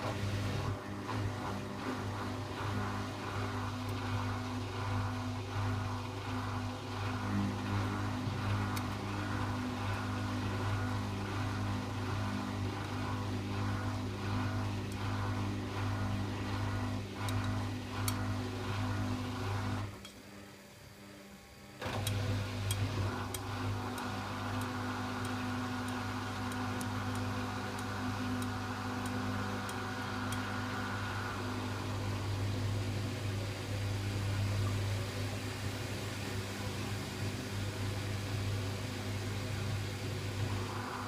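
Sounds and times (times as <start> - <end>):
washing machine motor humming: 0.0 - 41.0.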